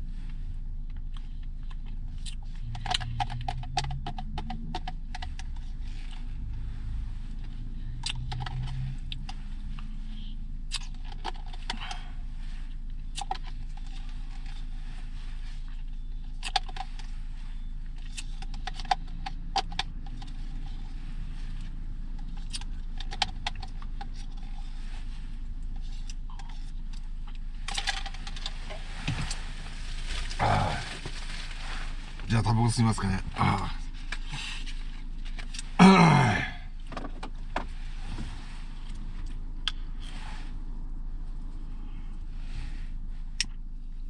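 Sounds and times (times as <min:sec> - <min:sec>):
low car cabin hum: 0:00.0 - 0:44.0.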